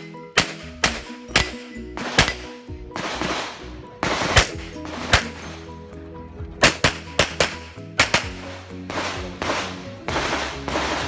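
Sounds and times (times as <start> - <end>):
background music: 0.0 - 11.0
handgun shots: 0.4 - 5.4, 6.6 - 11.0.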